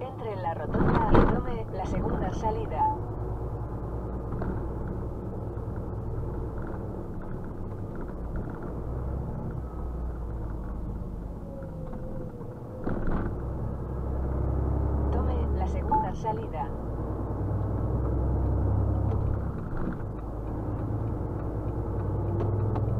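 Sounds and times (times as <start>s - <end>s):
truck engine and road drone: 0.0s - 22.9s.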